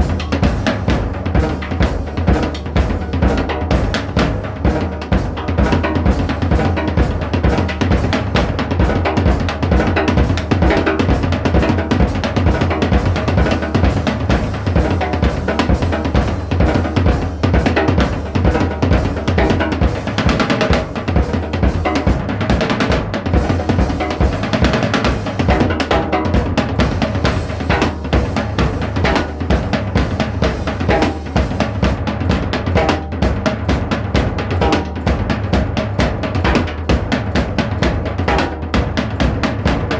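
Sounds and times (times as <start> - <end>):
drum kit playing fast beat: 0.0 - 39.9.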